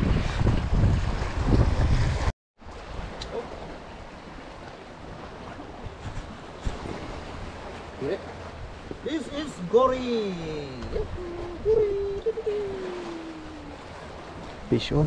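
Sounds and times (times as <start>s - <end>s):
wind rumbling on microphone: 0.0s - 9.0s, 10.7s - 14.8s
waves washing: 0.0s - 15.0s.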